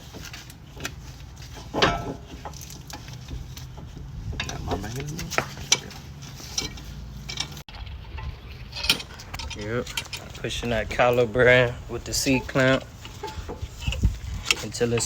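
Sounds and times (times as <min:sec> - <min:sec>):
metal clamp clinking and scraping: 0:00.0 - 0:07.6, 0:08.2 - 0:15.0.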